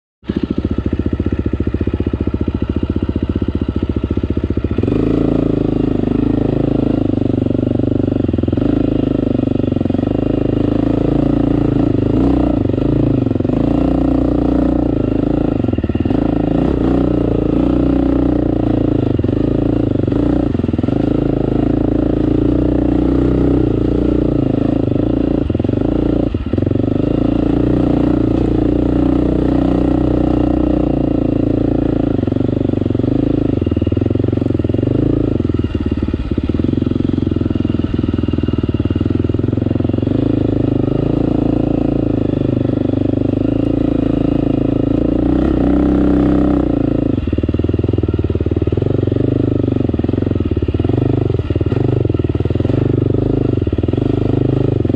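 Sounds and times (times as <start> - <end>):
dirt bike engine revving: 0.2 - 54.9.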